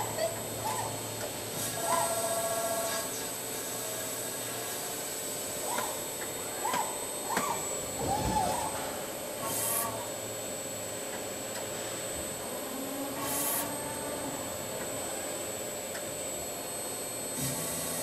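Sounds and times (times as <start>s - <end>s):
machining hum with high whine: 0.0s - 18.0s.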